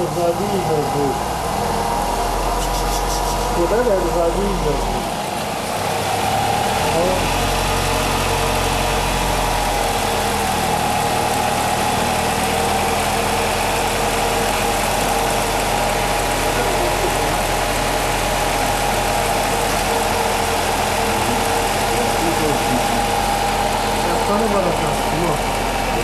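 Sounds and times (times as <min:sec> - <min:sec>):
constant hum: 0:00.0 - 0:26.0
drivetrain whine: 0:00.0 - 0:26.0.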